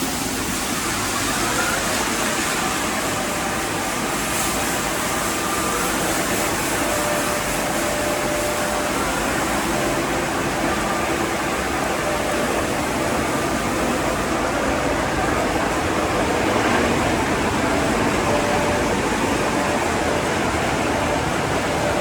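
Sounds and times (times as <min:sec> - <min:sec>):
car wash equipment rushing: 0:00.0 - 0:22.0.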